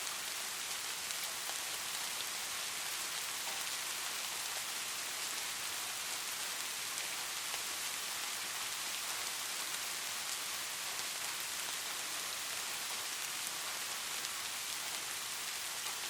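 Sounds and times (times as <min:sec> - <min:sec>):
light rain hiss: 0:00.0 - 0:16.0.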